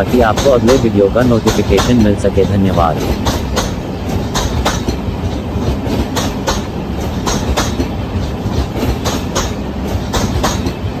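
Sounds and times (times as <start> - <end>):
train coaches rumbling past: 0.0 - 11.0
wheels clacking over rail joints: 0.0 - 11.0.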